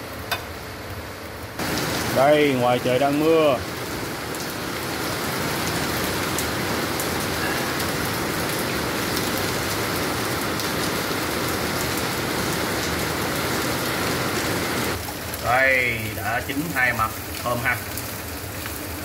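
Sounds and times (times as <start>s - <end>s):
heavy rain: 1.3s - 19.0s.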